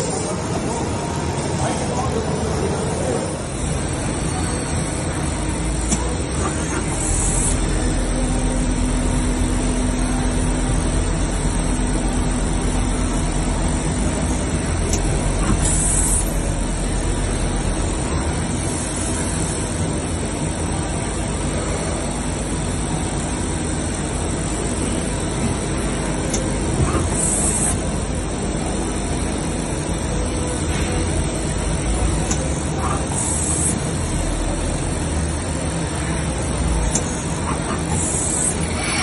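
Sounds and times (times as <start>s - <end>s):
lathe machine running: 0.0s - 39.0s.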